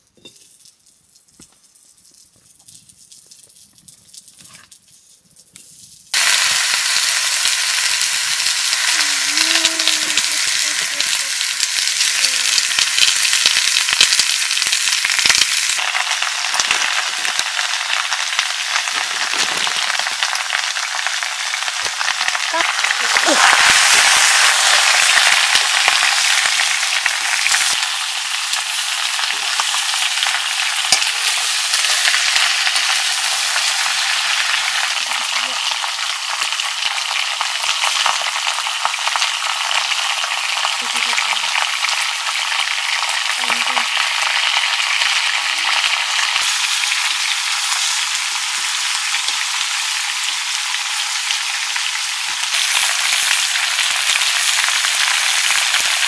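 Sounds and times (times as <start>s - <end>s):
pork sizzling in a wok: 5.6s - 56.0s.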